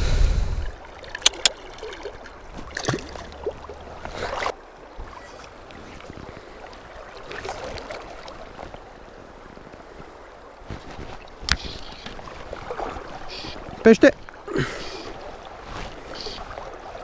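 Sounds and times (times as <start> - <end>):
river current flowing: 0.0 - 17.0
water splashes: 0.6 - 17.0.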